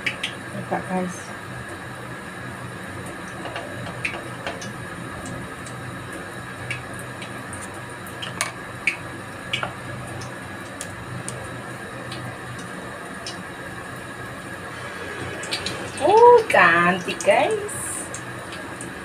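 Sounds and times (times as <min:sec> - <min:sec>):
low steady hum: 0:00.0 - 0:19.0
batter sizzling in hot oil: 0:01.0 - 0:19.0.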